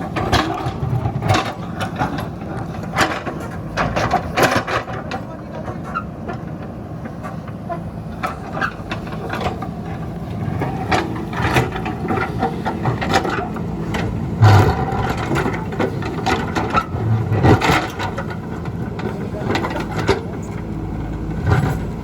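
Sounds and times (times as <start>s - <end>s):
backhoe diesel engine running: 0.0s - 22.0s
machine clanks and knocks: 0.0s - 22.0s.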